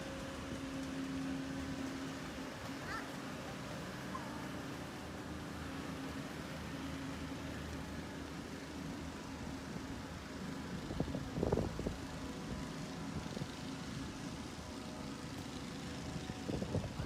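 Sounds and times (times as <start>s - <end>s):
pump truck humming: 0.0s - 17.0s.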